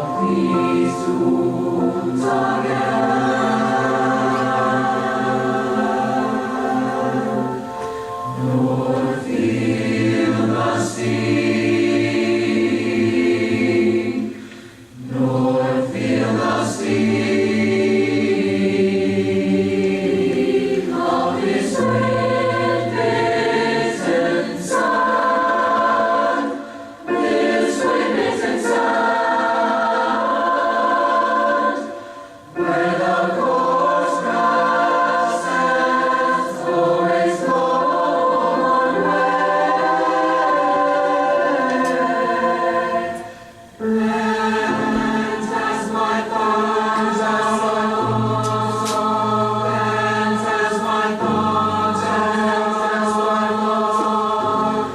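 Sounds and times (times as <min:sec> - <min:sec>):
choir singing sustained chords: 0:00.0 - 0:54.9.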